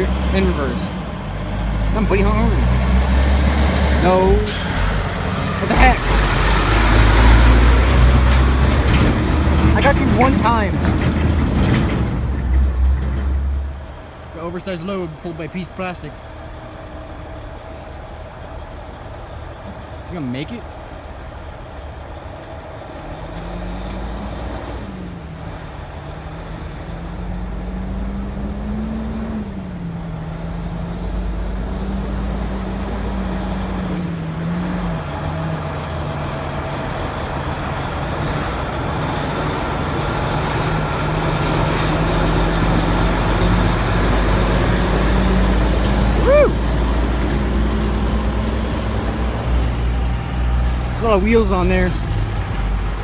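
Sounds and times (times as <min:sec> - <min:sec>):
diesel truck engine running: 0:00.0 - 0:53.0
traffic noise: 0:00.0 - 0:53.0.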